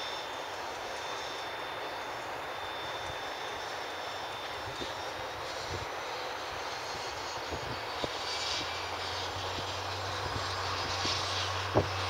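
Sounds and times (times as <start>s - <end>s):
turboprop engine spooling up: 0.0s - 12.0s.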